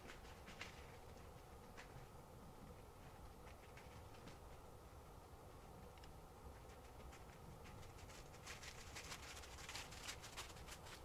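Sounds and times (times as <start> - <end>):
faint rustling and crackles: 0.0 - 11.0.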